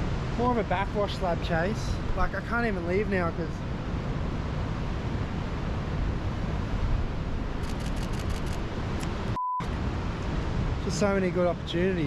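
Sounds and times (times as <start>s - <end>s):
ocean surf roar: 0.0s - 7.9s, 8.6s - 12.0s.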